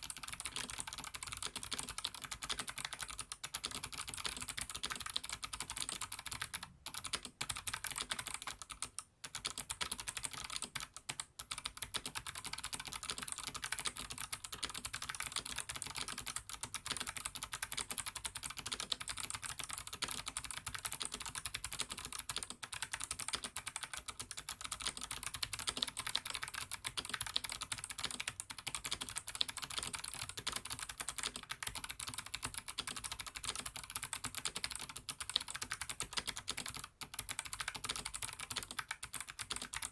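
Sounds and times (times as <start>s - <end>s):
clicky keyboard typing: 0.0s - 39.9s.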